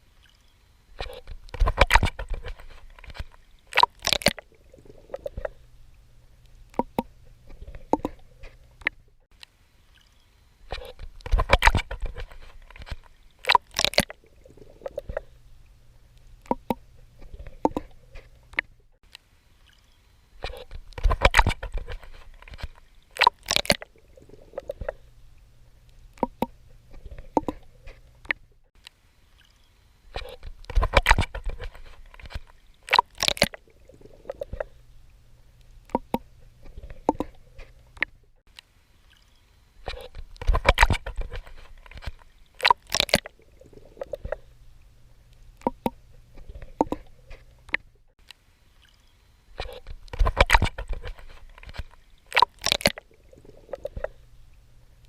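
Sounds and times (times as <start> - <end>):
water splashing from swimming: 0.0 - 9.0, 9.9 - 18.7, 19.6 - 28.4, 29.3 - 38.2, 39.0 - 47.9, 48.8 - 55.0
faint low hum: 0.0 - 55.0.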